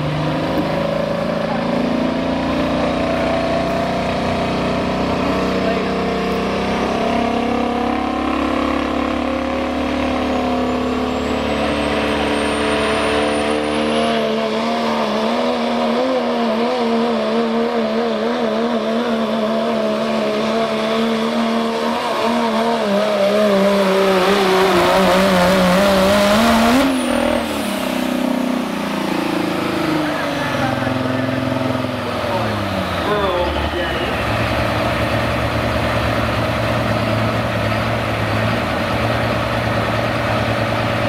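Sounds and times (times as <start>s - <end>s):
pickup truck engine at full throttle: 0.0s - 41.0s.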